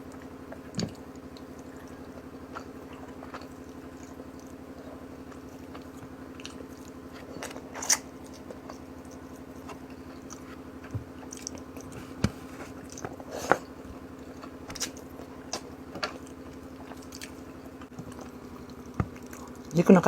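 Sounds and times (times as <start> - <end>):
steady low hum: 0.0 - 20.0
person chewing: 0.1 - 19.7.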